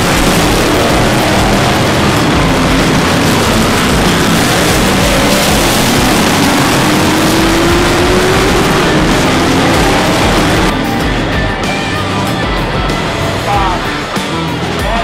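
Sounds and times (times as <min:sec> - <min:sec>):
race vehicle engine accelerating: 0:00.0 - 0:14.9
dense rushing noise: 0:00.0 - 0:15.0.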